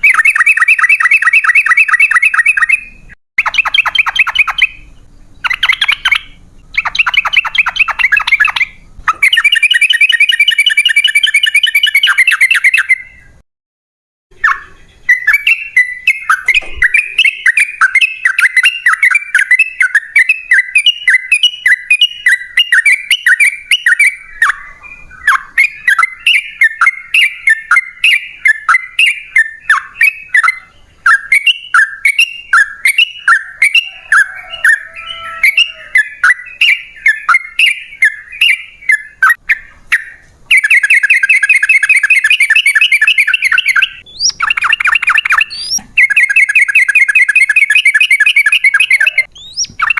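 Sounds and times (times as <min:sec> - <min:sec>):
bird singing rolling chatter: 0:00.0 - 0:13.4, 0:14.3 - 0:49.9.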